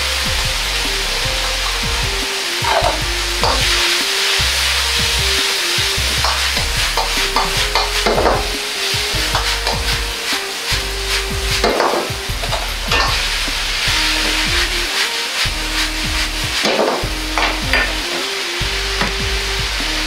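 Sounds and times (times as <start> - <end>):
metal ladle scraping a wok: 0.0 - 19.2
pasta sizzling in a wok: 0.0 - 20.0.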